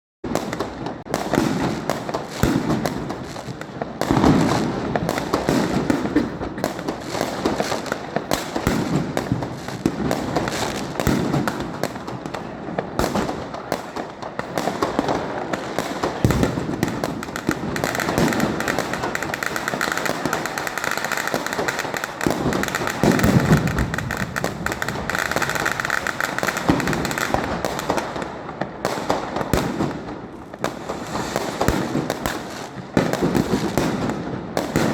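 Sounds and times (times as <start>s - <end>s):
fireworks shots and crackling: 0.2s - 34.9s
heavy firework bangs: 0.2s - 34.9s.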